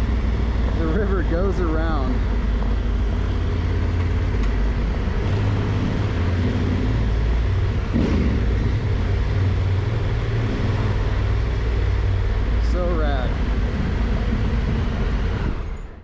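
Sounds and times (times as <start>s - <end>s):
motorcycle engine and wind rumble: 0.0s - 16.0s.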